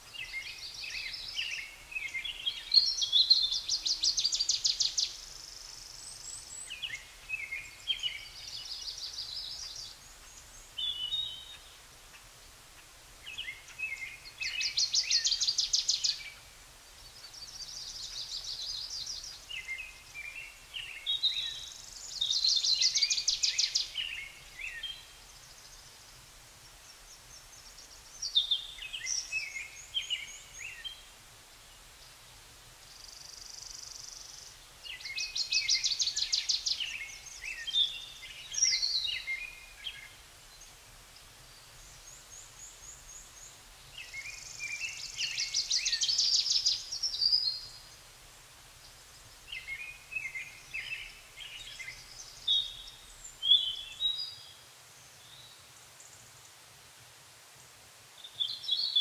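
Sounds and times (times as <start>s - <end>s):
faint background noise: 0.0s - 59.0s.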